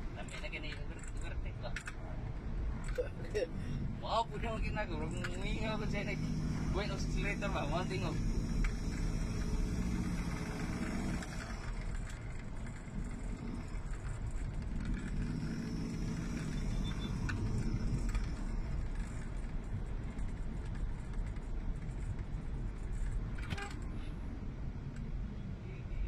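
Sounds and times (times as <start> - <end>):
road noise: 0.0 - 26.0
diesel van engine running: 2.2 - 24.2.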